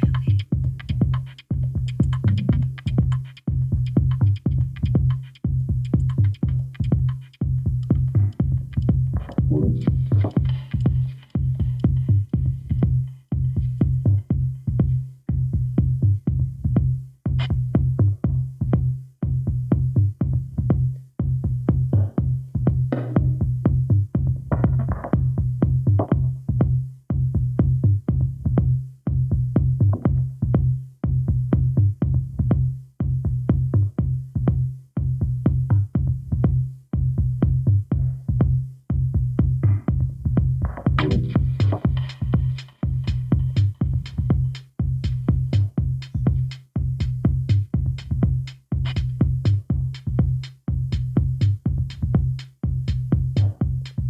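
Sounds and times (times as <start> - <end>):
drum machine kick: 0.0 - 54.0
heavy bassline: 0.0 - 54.0.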